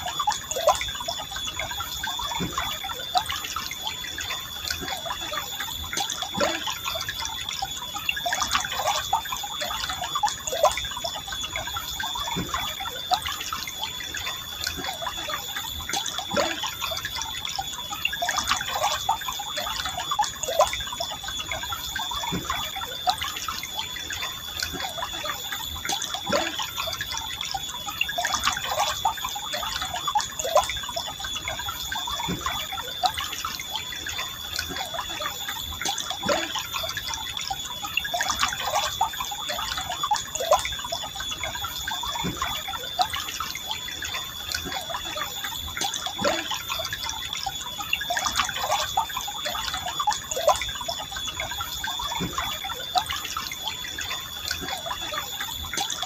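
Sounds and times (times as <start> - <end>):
river gurgling: 0.0 - 56.0.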